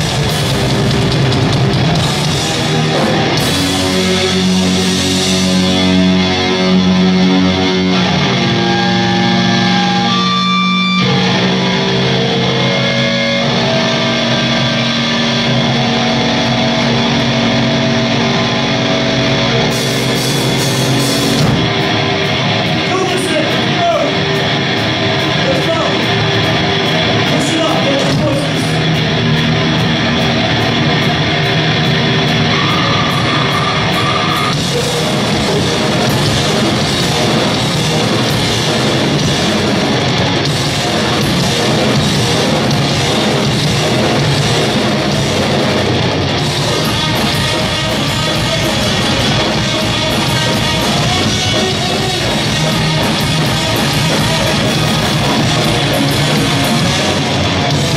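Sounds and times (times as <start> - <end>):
heavy metal band playing: 0.0 - 57.9.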